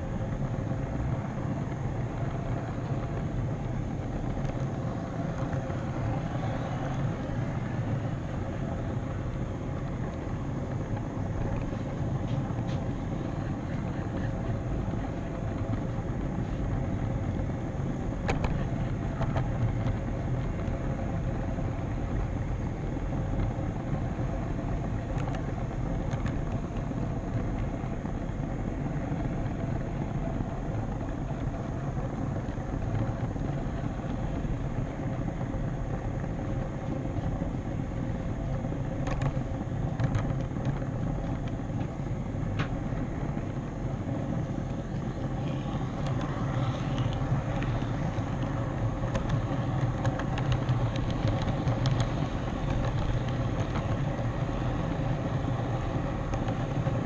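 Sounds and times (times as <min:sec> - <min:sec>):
model train wheels rumbling: 0:00.0 - 0:57.0.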